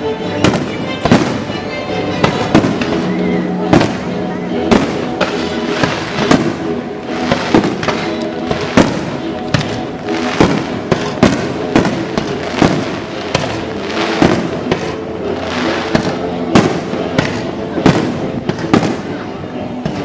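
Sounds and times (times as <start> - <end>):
music with held tones: 0.0 - 20.0
fireworks bangs and crackling: 0.2 - 20.0.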